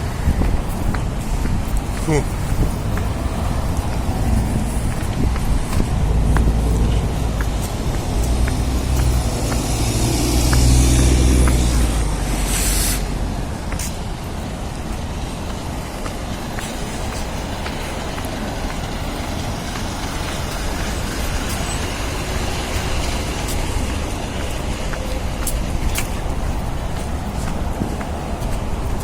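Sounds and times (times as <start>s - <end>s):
passing road traffic: 0.0s - 29.0s
wind rumbling on microphone: 0.0s - 29.0s.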